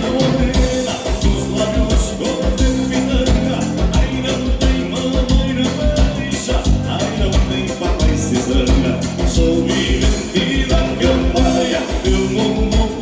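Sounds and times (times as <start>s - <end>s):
accordion: 0.0s - 13.0s
bass: 0.0s - 13.0s
faint singing voice: 0.0s - 13.0s
steady drum beat: 0.0s - 13.0s.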